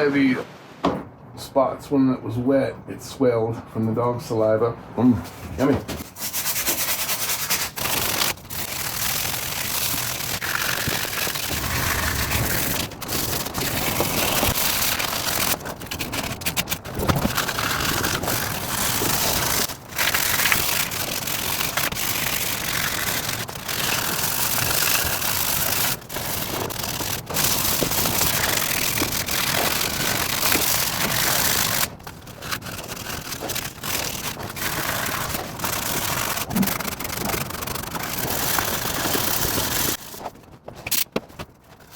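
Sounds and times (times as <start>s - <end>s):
sandpaper rubbing on wood: 6.0s - 41.1s.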